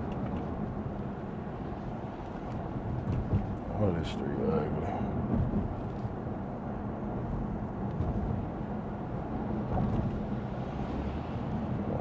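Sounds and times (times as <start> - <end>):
car engine hum: 0.0 - 12.0
road and tyre rumble: 0.0 - 12.0.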